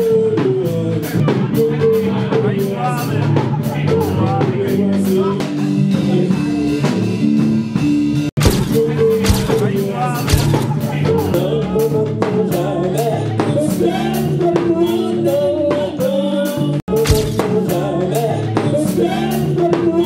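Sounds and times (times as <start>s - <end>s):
song with drums and singing: 0.0s - 7.4s, 8.4s - 20.0s.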